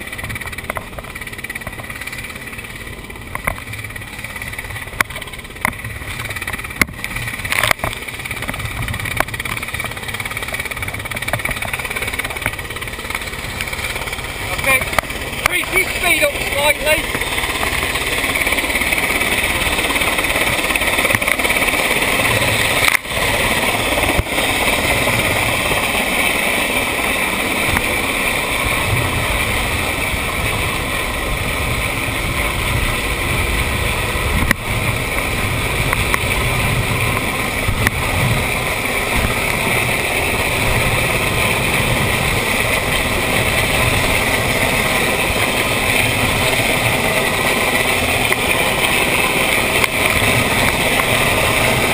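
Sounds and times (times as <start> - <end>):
helicopter flying: 0.0 - 51.9
outboard engine droning: 0.0 - 51.9.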